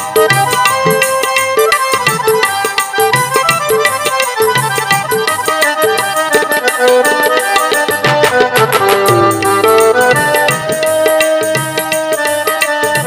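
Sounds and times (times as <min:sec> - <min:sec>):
keyboard melody: 0:00.0 - 0:12.4
tabla drumming: 0:00.0 - 0:13.0.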